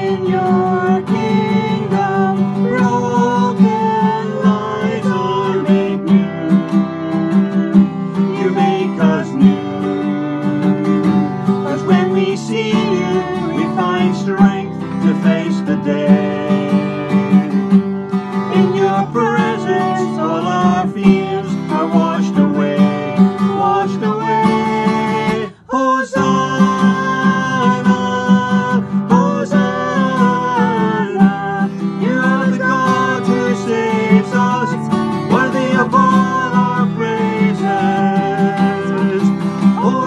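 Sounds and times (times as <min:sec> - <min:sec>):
strummed acoustic guitar: 0:00.0 - 0:40.0
worship song music: 0:00.0 - 0:40.0.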